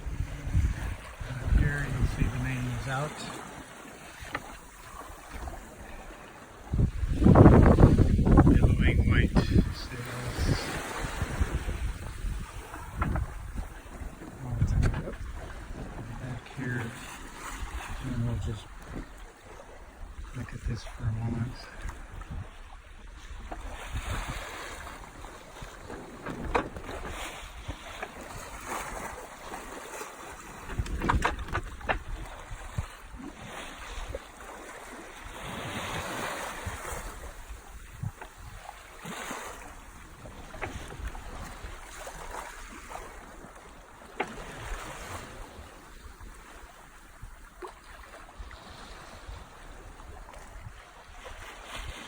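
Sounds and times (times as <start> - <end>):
wind on microphone: 0.0 - 3.1, 6.6 - 29.7, 30.3 - 43.6, 44.3 - 52.0
water washing along hull: 0.0 - 52.0.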